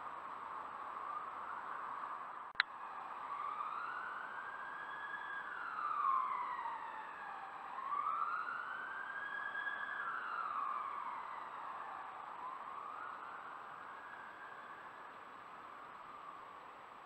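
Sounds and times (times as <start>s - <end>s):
emergency siren wailing: 0.3s - 16.8s.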